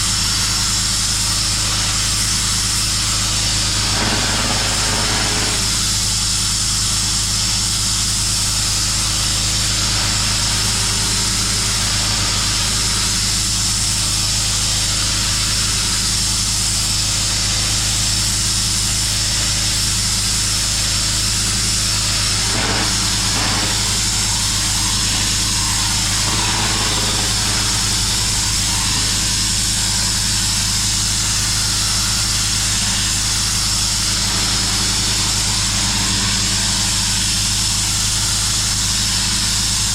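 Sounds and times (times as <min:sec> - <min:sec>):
high-pressure water jet hiss: 0:00.0 - 0:39.9
pressure washer engine hum: 0:00.0 - 0:39.9.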